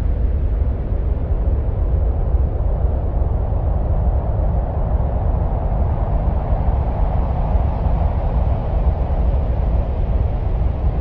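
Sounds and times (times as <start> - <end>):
deep wind-like rumble: 0.0 - 11.0.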